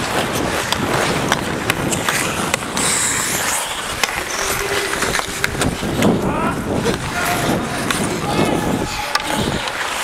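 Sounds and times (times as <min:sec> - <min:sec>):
skates gliding on ice: 0:00.0 - 0:10.0.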